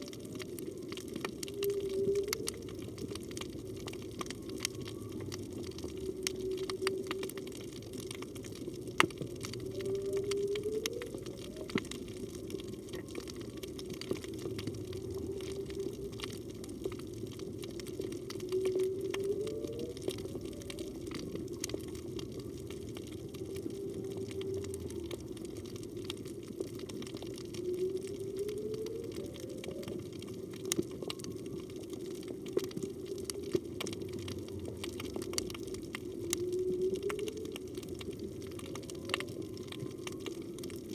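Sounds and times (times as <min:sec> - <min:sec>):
whale song underwater: 0:00.0 - 0:40.9.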